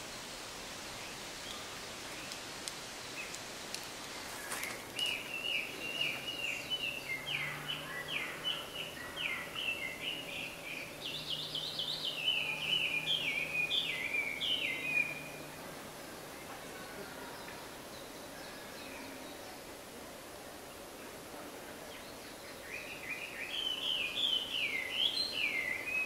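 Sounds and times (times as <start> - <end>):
songbird singing repeated notes: 0.0 - 19.9, 21.8 - 26.0.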